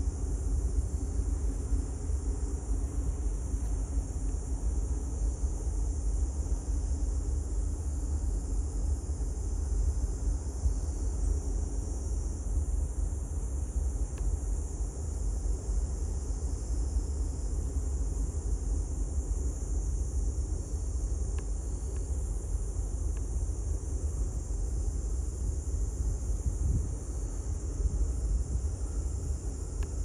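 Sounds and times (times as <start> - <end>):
insects droning: 0.0 - 30.0
wind rumble on microphone: 0.0 - 30.0.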